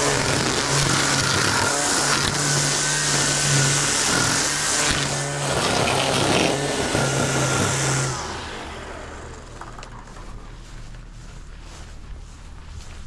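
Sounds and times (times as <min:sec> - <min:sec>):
string trimmer running: 0:00.0 - 0:12.4.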